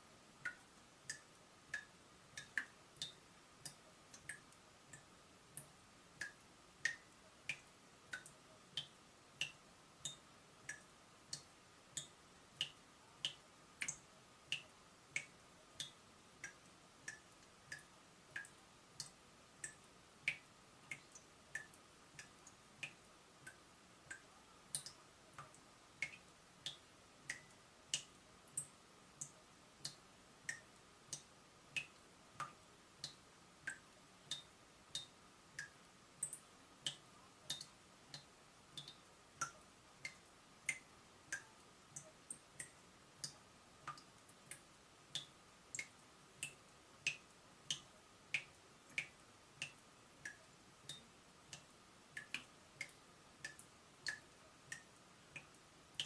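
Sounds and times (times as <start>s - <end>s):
faint steady hum: 0.0s - 56.0s
water dripping from tap: 0.4s - 56.0s.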